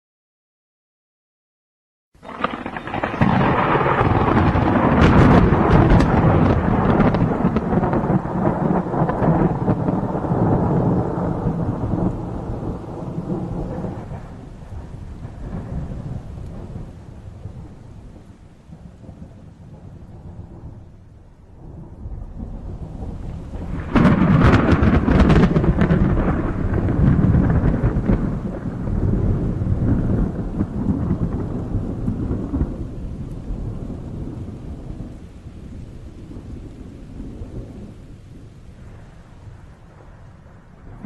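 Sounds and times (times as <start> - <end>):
rain falling: 2.2 - 41.0
thunder rumbling and clapping: 2.2 - 41.0.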